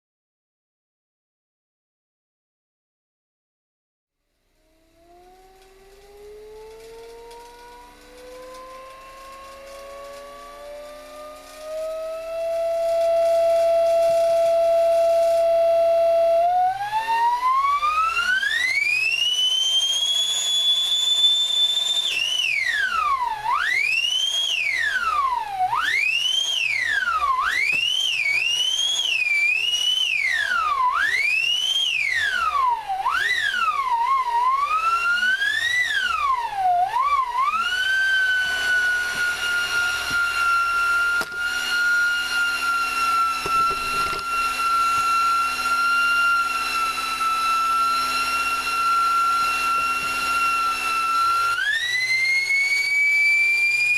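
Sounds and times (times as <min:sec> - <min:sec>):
electric jet fan whining: 0:04.4 - 0:53.9.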